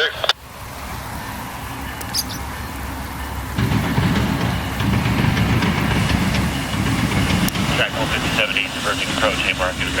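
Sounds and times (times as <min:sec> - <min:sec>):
diesel locomotive rumbling past: 0:00.4 - 0:10.0.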